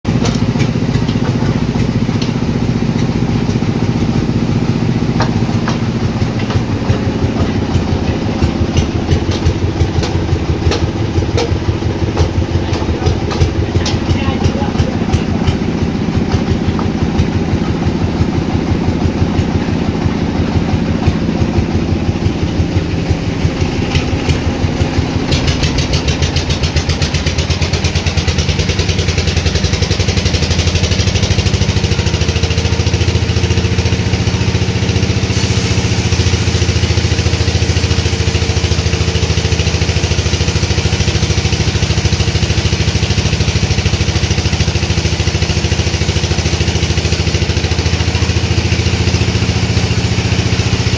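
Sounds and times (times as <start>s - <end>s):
engine running: 0.0s - 50.9s.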